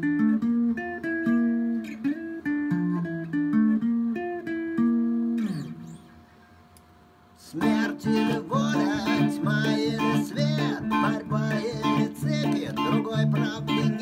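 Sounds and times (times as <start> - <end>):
electric guitar through amplifier: 0.0 - 14.0.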